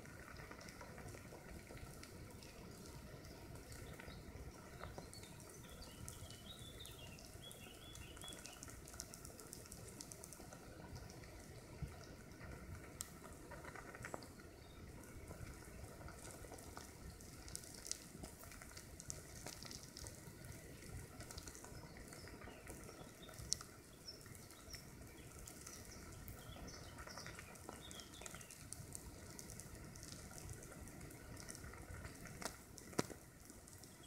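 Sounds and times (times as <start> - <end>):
ants crawling crackling sizzle: 0.0 - 34.0.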